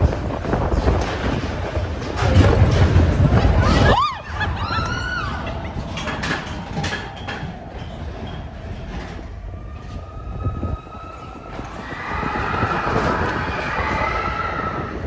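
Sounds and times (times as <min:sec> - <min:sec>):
coaster clicks: 0:00.0 - 0:15.0
coaster wheels rumbling: 0:00.0 - 0:15.0.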